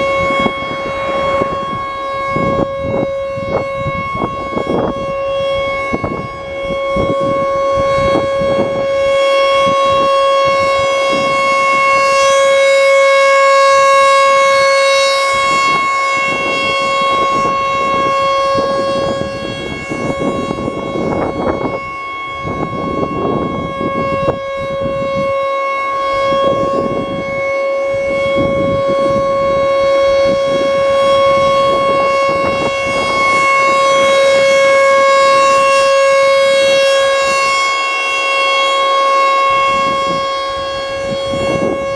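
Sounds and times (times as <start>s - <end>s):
steady warning siren tone: 0.0s - 41.9s.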